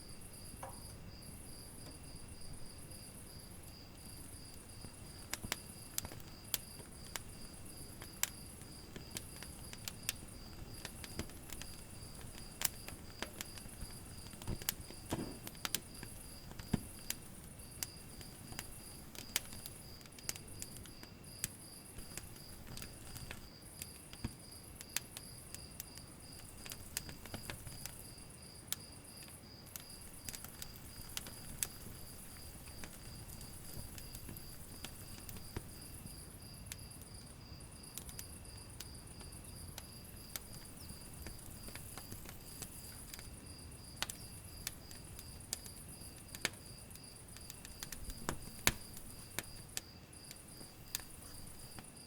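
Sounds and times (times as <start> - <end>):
insects chirping: 0.0 - 52.0
wood fire crackling: 0.0 - 52.0.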